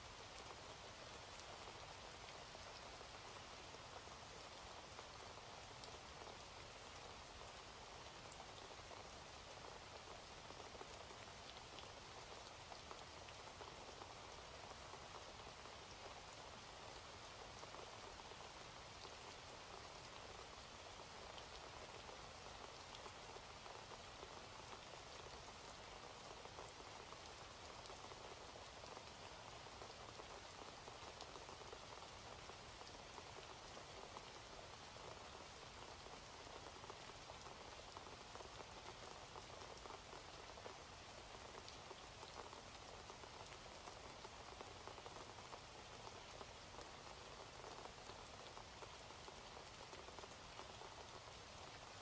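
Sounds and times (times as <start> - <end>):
faint steady rain: 0.0 - 52.0.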